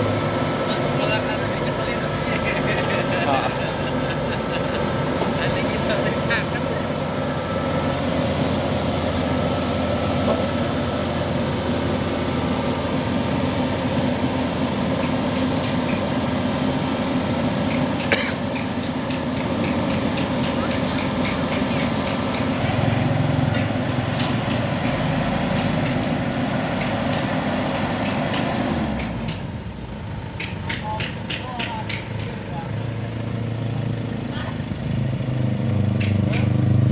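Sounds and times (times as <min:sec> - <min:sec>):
heavy machinery engine running: 0:00.0 - 0:36.9.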